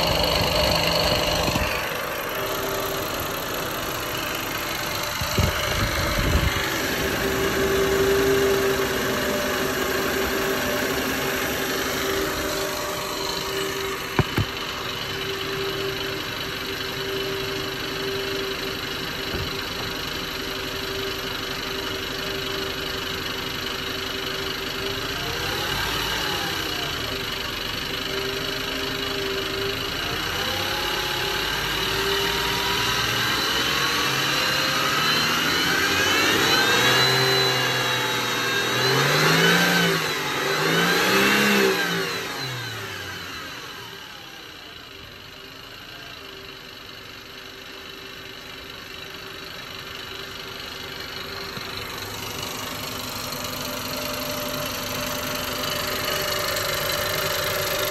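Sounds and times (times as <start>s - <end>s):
engine ticking: 0.0s - 32.8s, 42.2s - 57.9s
car engine idling and revving: 0.0s - 57.9s.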